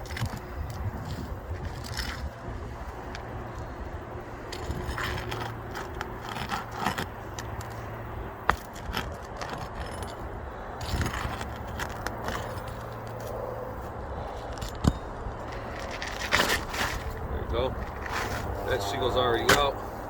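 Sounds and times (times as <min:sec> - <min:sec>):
roof shingle scraping and rattling: 0:00.0 - 0:20.0.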